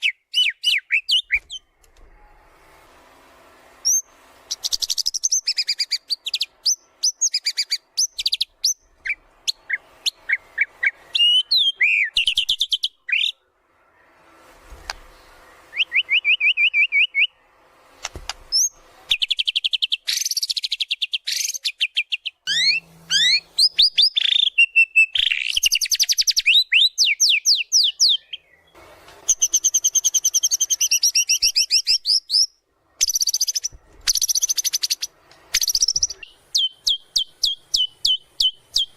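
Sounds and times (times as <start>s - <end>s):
bird singing trills and whistles: 0.0s - 1.6s, 3.8s - 13.4s, 15.7s - 17.4s, 18.5s - 38.9s.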